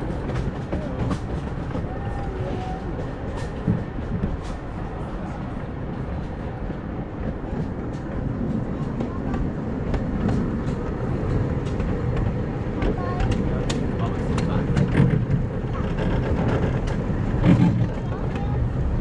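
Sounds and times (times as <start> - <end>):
miniature train rumbling: 0.0 - 19.0
wheels clicking over rail joints: 0.0 - 19.0.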